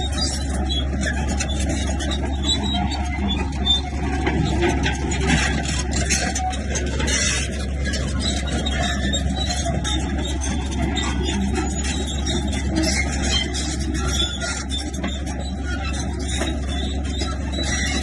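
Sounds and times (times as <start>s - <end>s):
bulldozer engine drone: 0.0s - 18.0s.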